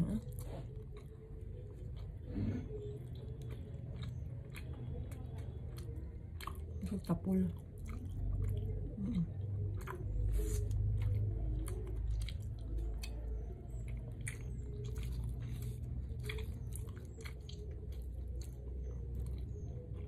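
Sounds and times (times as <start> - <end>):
person chewing sticky rice cake: 0.0 - 20.0.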